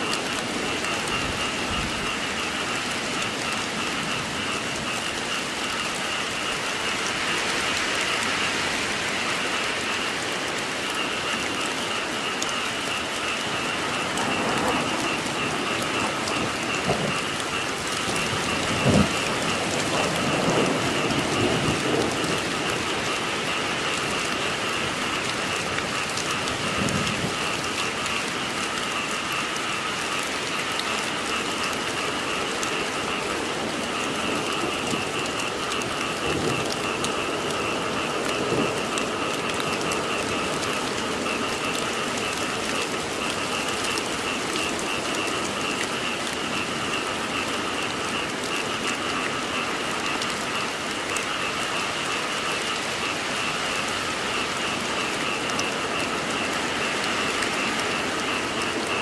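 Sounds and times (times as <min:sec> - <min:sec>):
frogs calling in chorus: 0:00.0 - 0:59.0
steady rain falling: 0:00.0 - 0:59.0.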